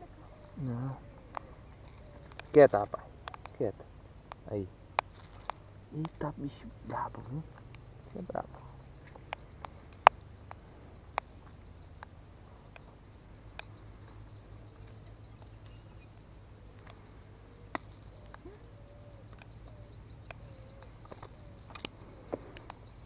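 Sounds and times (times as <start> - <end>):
faint low gliding calls: 0.0 - 23.0
high insect trill: 0.0 - 23.0
sharp ticks: 1.3 - 23.0.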